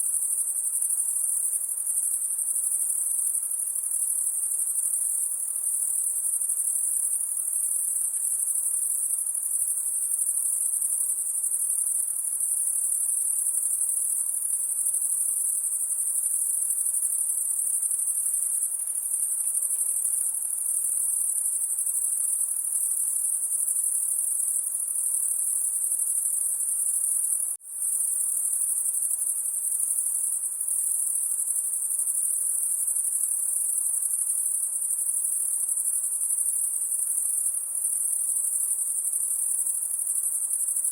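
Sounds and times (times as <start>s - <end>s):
high-pitched night insects chorus: 0.0s - 40.9s.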